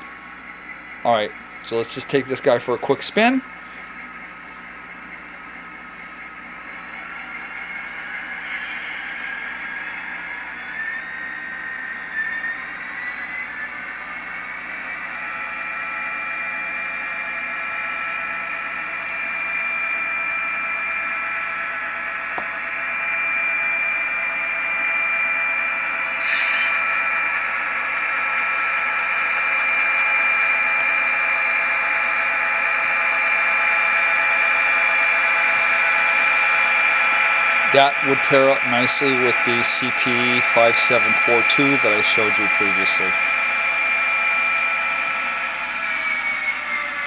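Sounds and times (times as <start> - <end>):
diesel engine sound from small speaker: 0.0 - 47.0
steady high whine: 0.0 - 47.0.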